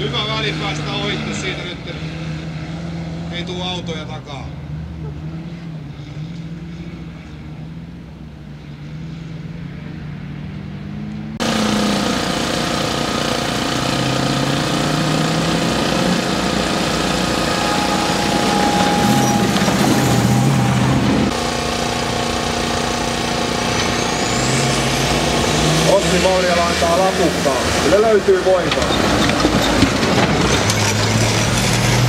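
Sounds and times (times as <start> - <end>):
off-road vehicle engines running: 0.0 - 32.0.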